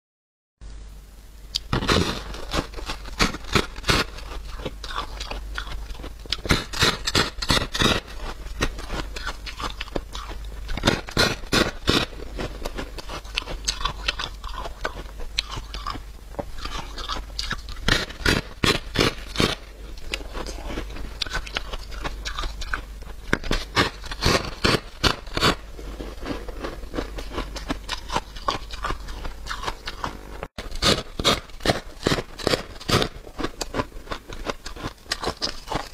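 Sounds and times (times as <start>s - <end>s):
crunching and chewing frost: 1.5s - 35.9s.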